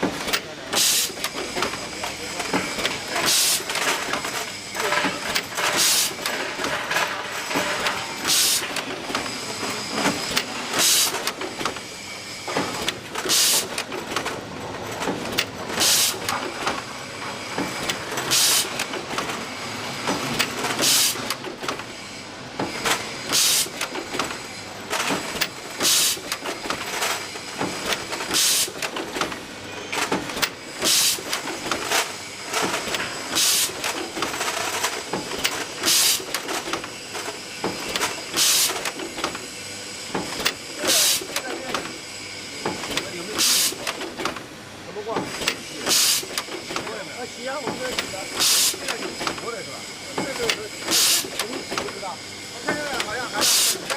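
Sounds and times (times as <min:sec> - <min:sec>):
machine mechanical clatter: 0:00.0 - 0:42.0, 0:42.6 - 0:53.9.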